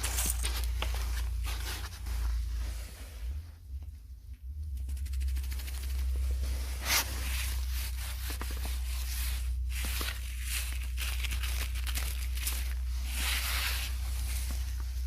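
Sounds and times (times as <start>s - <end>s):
close rustling and crackling: 0.0s - 3.8s, 4.7s - 15.0s
steady low hum: 0.0s - 15.0s.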